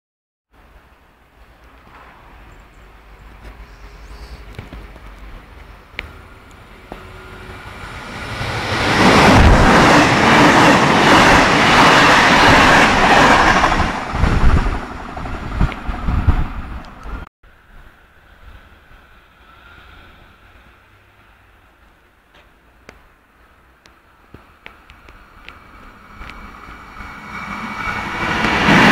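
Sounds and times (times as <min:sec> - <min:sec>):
train passing with rush of wheels: 0:00.6 - 0:28.9.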